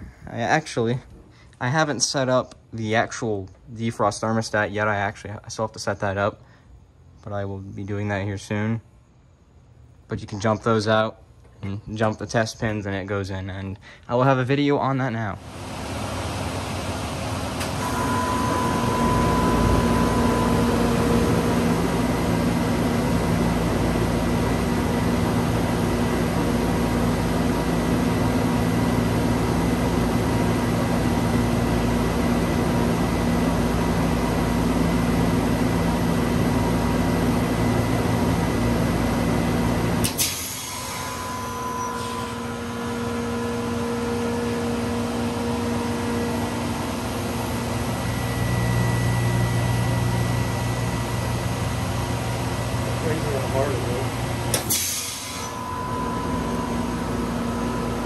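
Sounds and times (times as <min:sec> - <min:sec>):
heat pump compressor and fan hum: 0:00.0 - 0:58.0.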